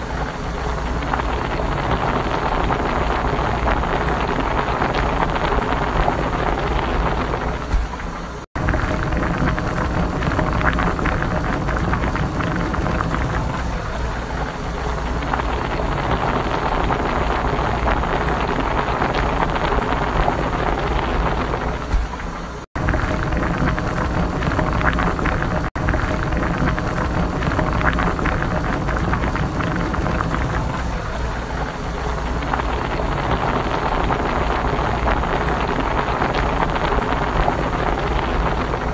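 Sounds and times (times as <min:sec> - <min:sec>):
water boiling in kettle: 0:00.0 - 0:38.9.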